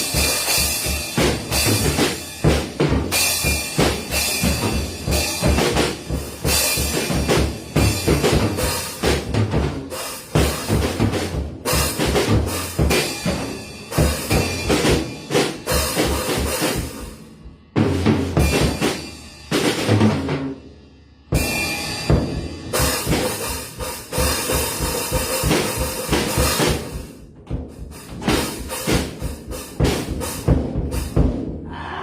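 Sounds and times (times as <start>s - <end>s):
acoustic drum kit: 0.0s - 32.0s.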